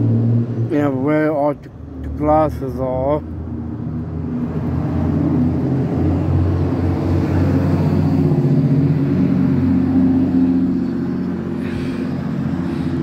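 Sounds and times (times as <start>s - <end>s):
vehicle engine running: 0.6s - 13.0s.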